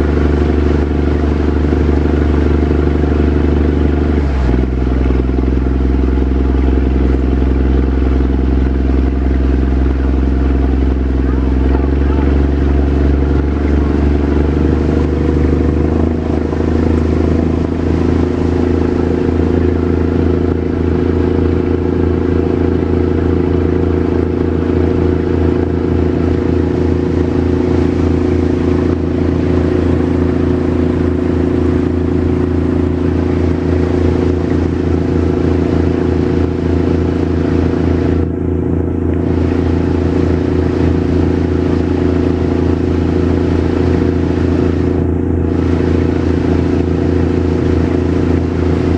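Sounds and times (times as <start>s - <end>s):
speedboat engine drone: 0.0s - 48.9s
water rushing: 0.0s - 48.9s.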